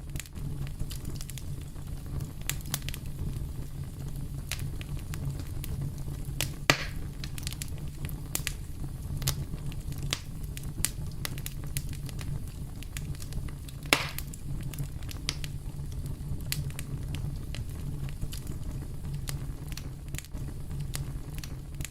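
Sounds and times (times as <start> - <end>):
campfire wood crackling: 0.0 - 21.9
loud fire pops: 0.0 - 21.9
low fire rumble: 0.0 - 21.9.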